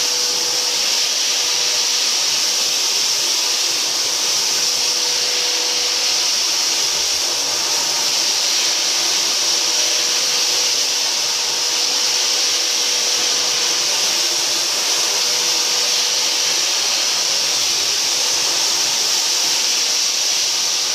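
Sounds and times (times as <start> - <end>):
floor sanding machine hiss: 0.0 - 20.9.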